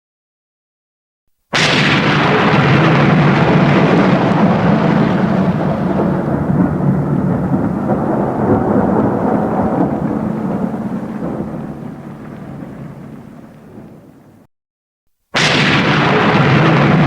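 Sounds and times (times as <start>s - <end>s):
thunder rumbling: 1.6s - 14.5s, 15.4s - 17.0s.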